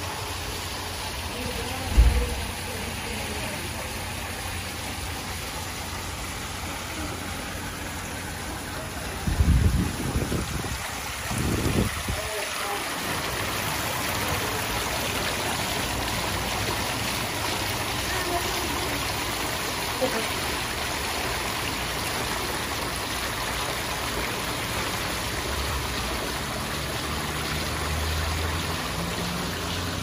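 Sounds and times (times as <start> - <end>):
water spilling over edge: 0.0 - 30.0
waterfall pouring into pool: 0.0 - 30.0.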